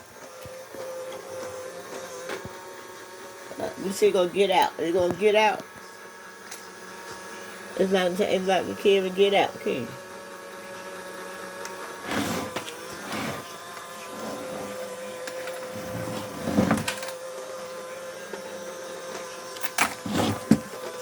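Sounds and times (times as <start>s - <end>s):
robot vacuum motor whine: 0.0s - 21.0s.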